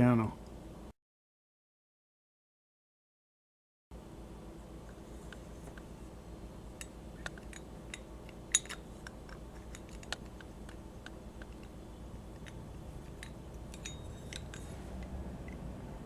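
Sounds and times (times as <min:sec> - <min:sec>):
low steady hum: 0:00.0 - 0:00.9, 0:03.9 - 0:16.0.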